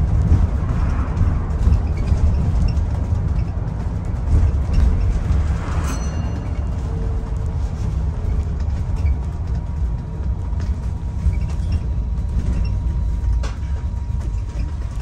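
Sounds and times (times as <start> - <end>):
bus rumbling: 0.0 - 15.0.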